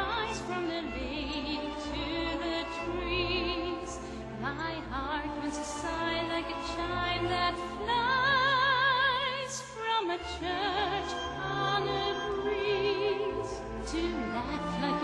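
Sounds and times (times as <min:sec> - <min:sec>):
operatic singing with vibrato: 0:00.0 - 0:15.0.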